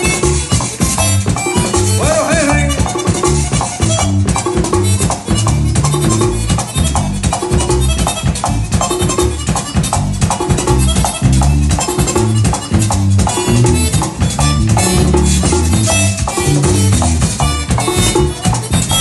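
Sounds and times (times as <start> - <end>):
button accordion melody: 0.0 - 19.0
drum beat: 0.0 - 19.0
electric bass: 0.0 - 19.0
metal scraper rhythm: 0.0 - 19.0.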